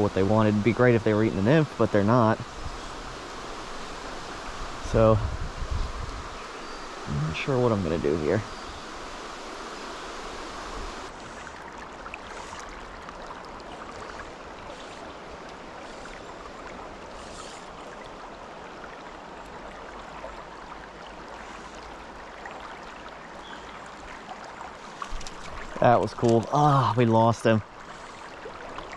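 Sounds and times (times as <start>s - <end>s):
stream flowing over riffles: 0.0s - 28.9s.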